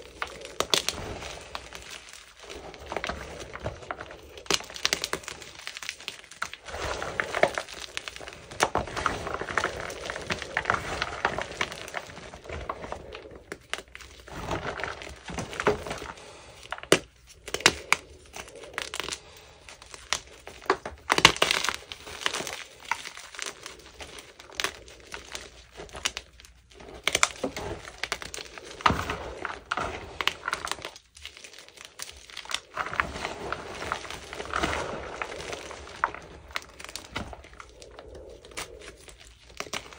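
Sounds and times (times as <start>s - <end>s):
hands crunching chalk: 0.0s - 39.9s.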